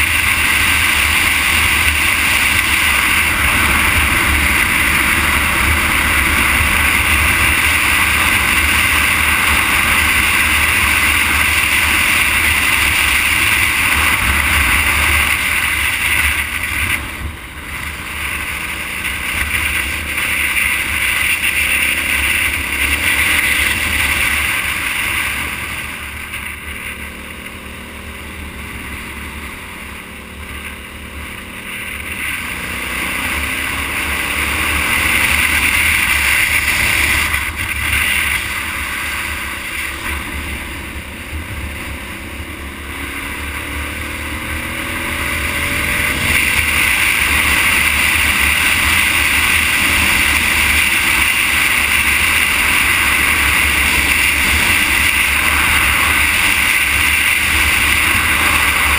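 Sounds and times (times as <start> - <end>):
low road rumble: 0.0 - 58.9.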